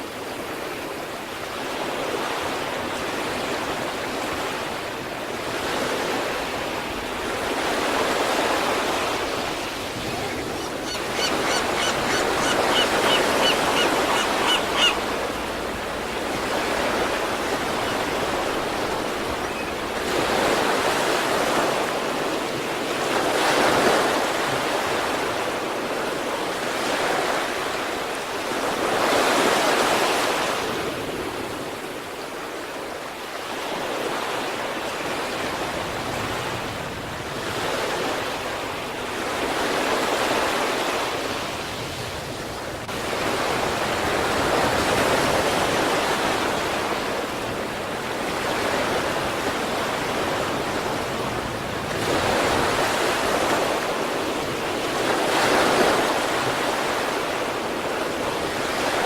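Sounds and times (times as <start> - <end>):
sea waves breaking on shore: 0.0 - 59.0.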